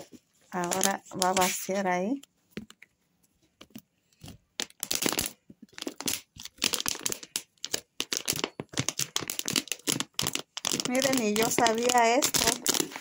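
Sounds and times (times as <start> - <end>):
plastic bottle crinkling: 0.0 - 1.8, 3.7 - 13.0.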